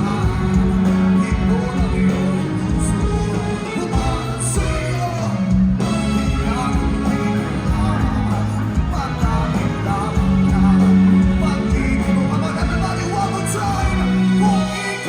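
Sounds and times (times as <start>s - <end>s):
bass line: 0.0s - 15.0s
live band playing: 0.0s - 15.0s
person singing: 0.0s - 15.0s.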